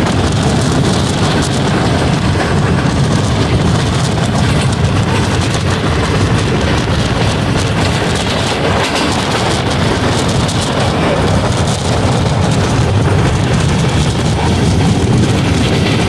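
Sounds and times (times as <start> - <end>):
rushing noise: 0.0 - 16.0
train wheels rumbling on track: 0.0 - 16.0.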